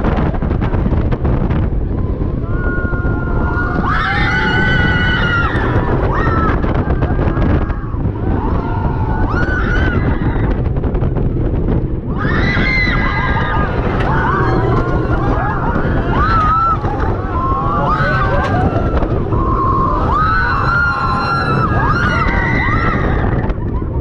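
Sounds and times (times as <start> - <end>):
low rumble: 0.0 - 24.0
wind rushing over microphone: 0.0 - 24.0
riders screaming: 2.4 - 10.7, 12.1 - 23.8.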